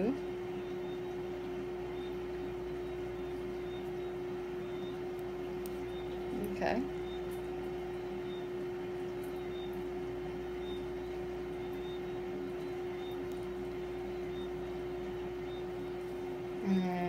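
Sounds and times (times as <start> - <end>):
constant mid-pitched tone: 0.0 - 17.0
steady background hum: 0.0 - 17.0.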